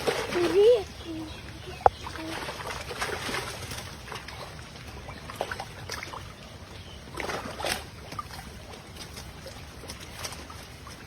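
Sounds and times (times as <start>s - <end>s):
pond water splashing: 0.0s - 11.0s.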